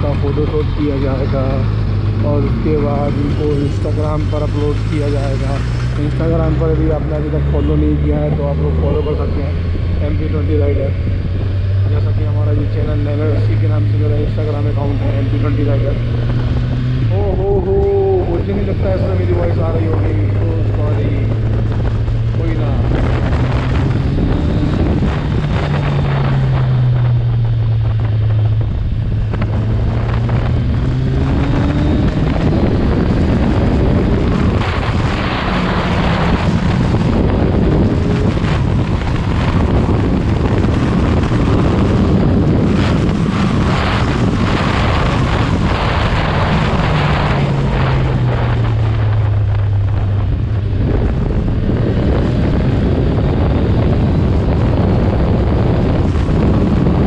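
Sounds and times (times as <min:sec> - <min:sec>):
motorcycle engine and exhaust: 0:00.0 - 0:57.0
wind buffeting microphone: 0:00.0 - 0:57.0.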